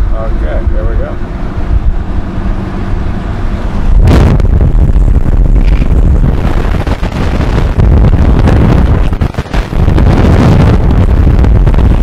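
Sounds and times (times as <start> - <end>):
wind buffeting a microphone: 0.0 - 12.0.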